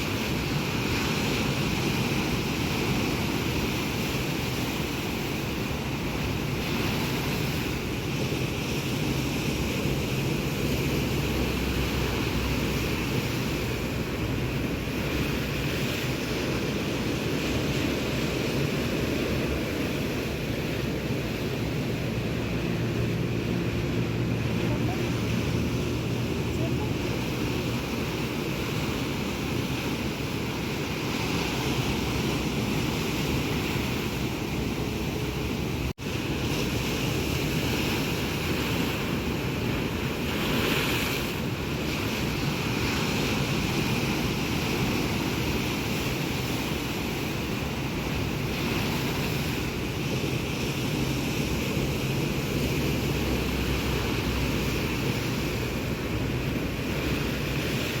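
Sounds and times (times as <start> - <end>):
surf washing onto shore: 0.0 - 58.0.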